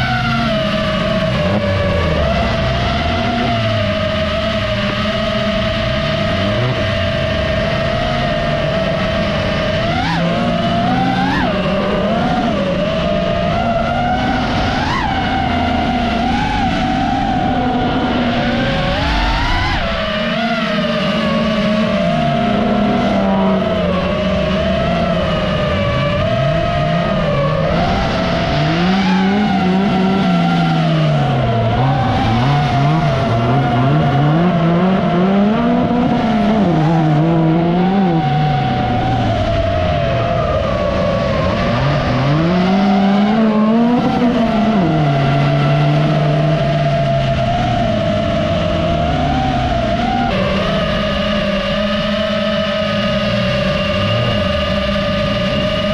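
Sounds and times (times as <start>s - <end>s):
car engines revving: 0.0s - 55.9s
steady high whine: 0.0s - 55.9s.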